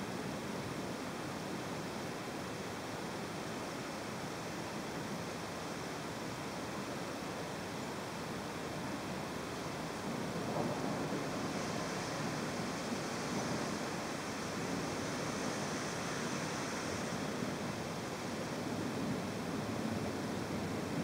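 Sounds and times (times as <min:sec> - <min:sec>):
downpour: 0:00.0 - 0:21.0
wind: 0:00.0 - 0:21.0.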